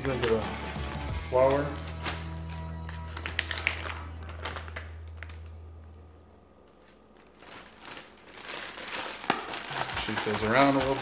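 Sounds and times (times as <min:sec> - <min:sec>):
plastic bags rustling: 0:00.0 - 0:05.7, 0:06.6 - 0:11.0
low background music: 0:00.0 - 0:06.7, 0:08.4 - 0:11.0.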